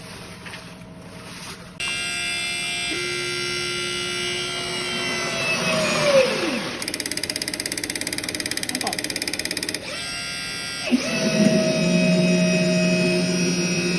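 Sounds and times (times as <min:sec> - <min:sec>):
electric motor whine: 0:01.8 - 0:07.4, 0:08.0 - 0:13.9.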